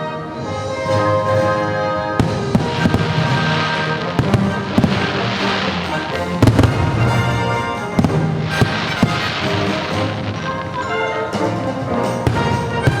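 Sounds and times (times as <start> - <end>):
fireworks bangs and crackling: 0.5 - 13.0
loud show music: 2.2 - 13.0.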